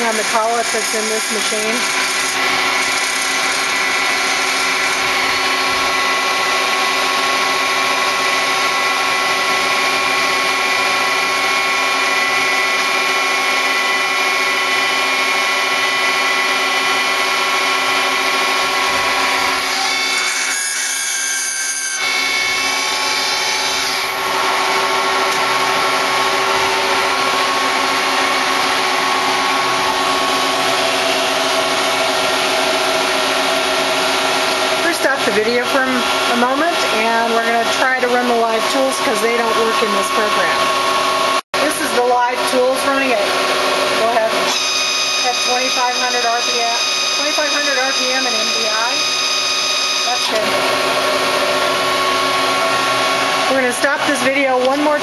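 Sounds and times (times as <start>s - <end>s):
lathe machine whine: 0.0s - 55.0s.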